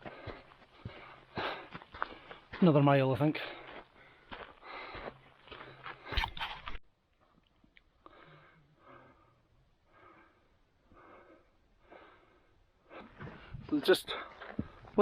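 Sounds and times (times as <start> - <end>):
heavy breathing: 0.0 - 2.5, 3.4 - 6.6, 8.0 - 15.0.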